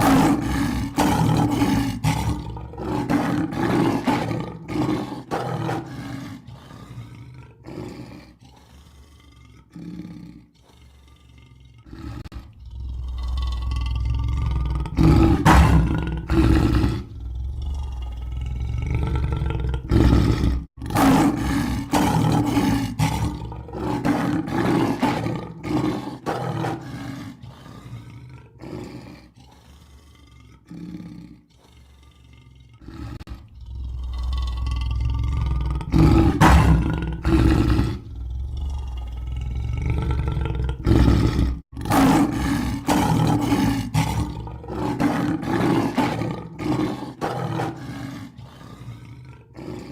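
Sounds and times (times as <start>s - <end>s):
lion roaring: 0.0s - 49.9s.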